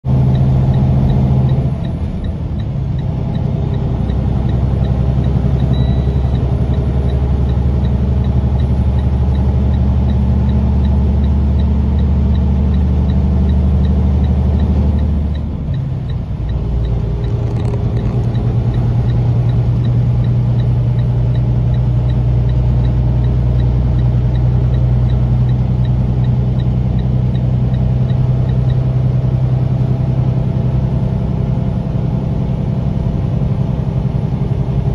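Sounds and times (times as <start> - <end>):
road noise: 0.0 - 34.9
truck engine running: 0.0 - 34.9.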